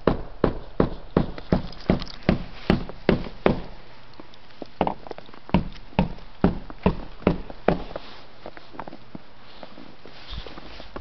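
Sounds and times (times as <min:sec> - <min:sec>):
footsteps in snow: 0:00.9 - 0:11.0.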